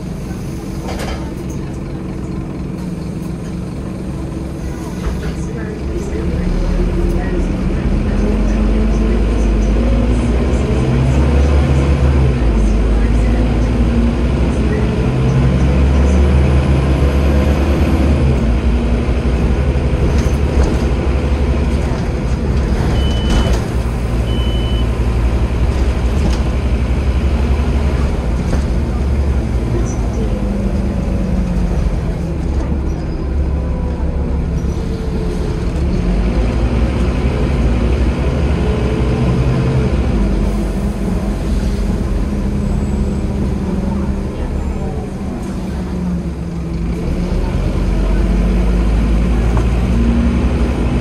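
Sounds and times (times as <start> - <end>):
bus diesel engine changing gears: 0.0 - 51.0.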